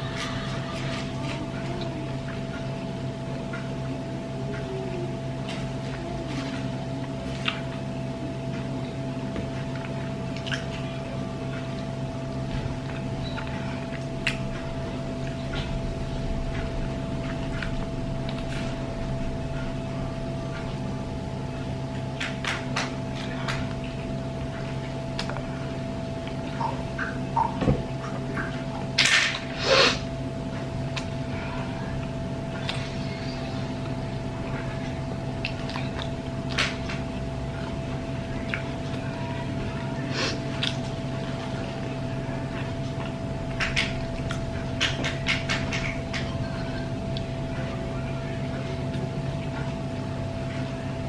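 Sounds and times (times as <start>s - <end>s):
steady hum: 0.0s - 51.0s.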